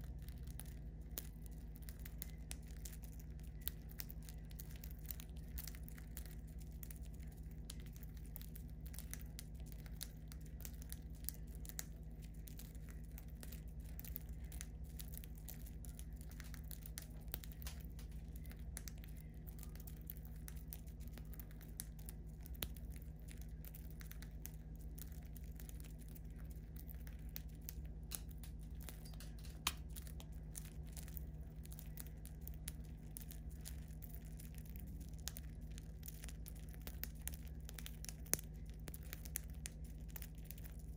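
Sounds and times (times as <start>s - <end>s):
birds cracking seeds: 0.0s - 40.9s
low hum: 0.0s - 40.9s.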